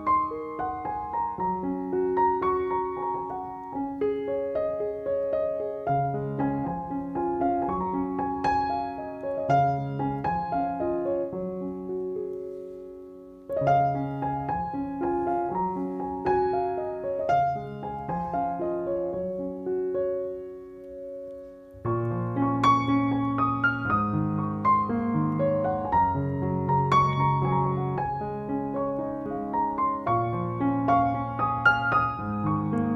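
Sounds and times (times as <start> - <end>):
piano music: 0.0 - 32.9.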